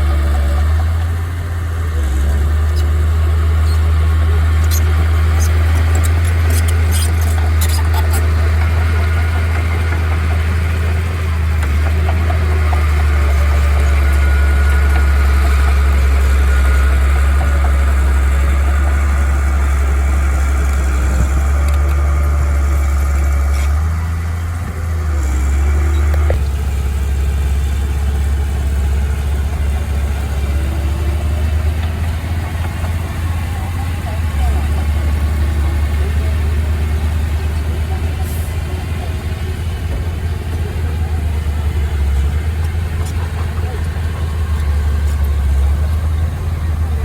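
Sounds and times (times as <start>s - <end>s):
heavy machine engine droning: 0.0s - 47.0s.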